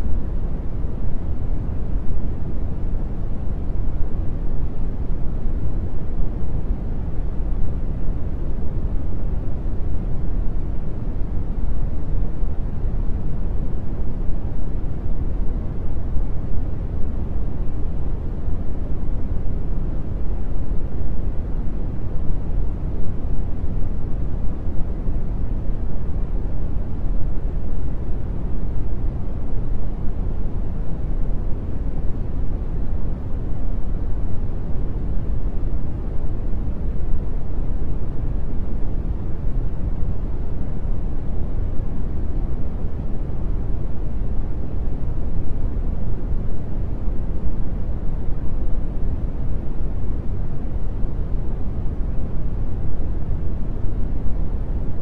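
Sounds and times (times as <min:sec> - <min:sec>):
deep brown noise hiss: 0:00.0 - 0:55.0.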